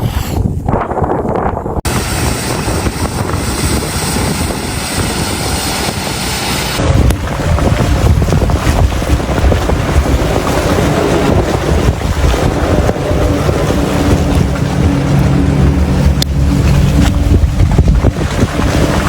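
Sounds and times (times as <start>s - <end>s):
wind buffeting microphone: 0.0s - 19.0s
steady low drone: 1.8s - 19.0s.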